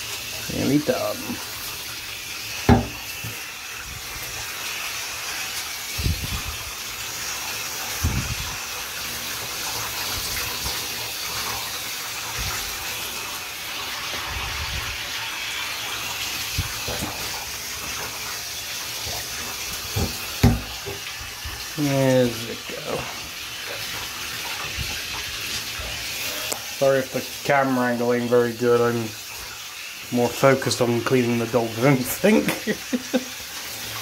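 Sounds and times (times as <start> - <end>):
shower water spraying: 0.0 - 34.0.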